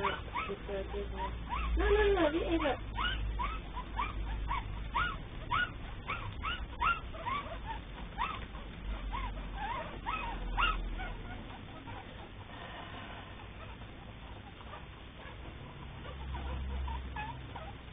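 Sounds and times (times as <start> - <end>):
puppies whimpering squeaks: 0.0 - 17.9.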